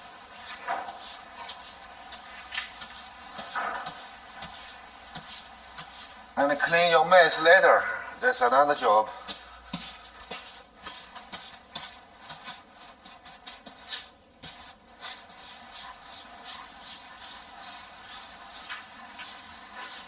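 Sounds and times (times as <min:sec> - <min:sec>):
rubbing on plasterboard: 0:00.0 - 0:07.5, 0:08.2 - 0:20.0.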